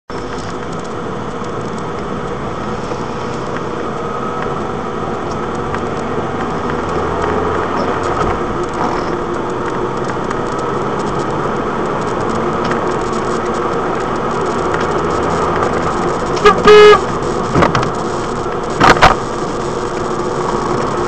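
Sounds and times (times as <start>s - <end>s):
car engine and tyre noise: 0.0s - 21.0s.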